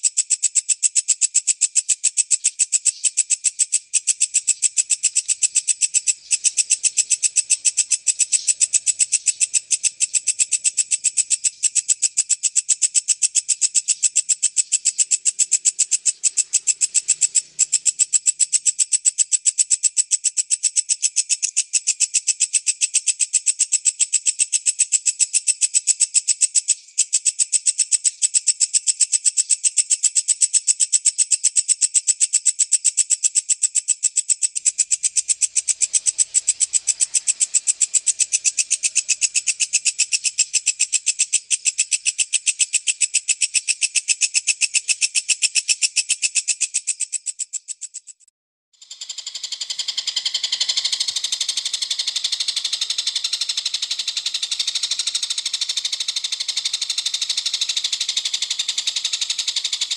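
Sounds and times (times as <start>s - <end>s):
bush cricket stridulating: 0.0s - 59.9s.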